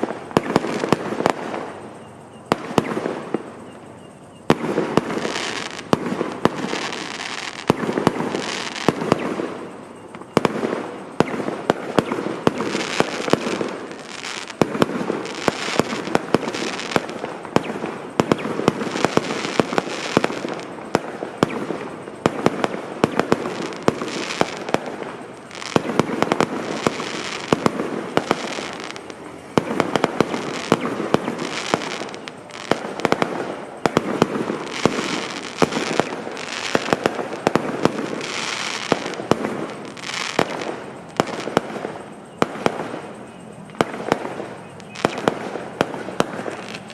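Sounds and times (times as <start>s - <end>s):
fireworks crackles and bangs: 0.0s - 46.9s.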